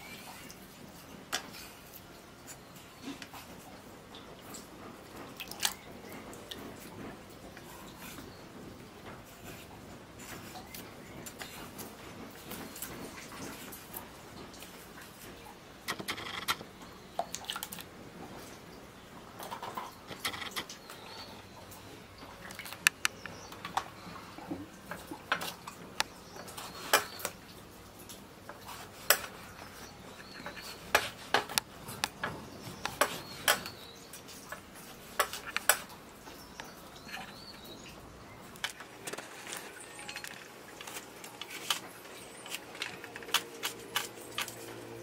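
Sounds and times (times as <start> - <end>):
birds chirping: 5.5 - 45.0.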